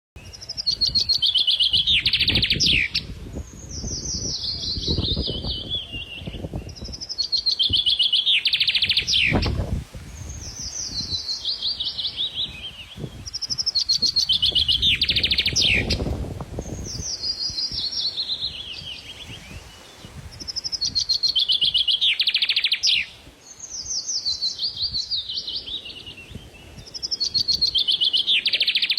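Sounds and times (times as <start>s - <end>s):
songbird singing: 0.2s - 28.9s.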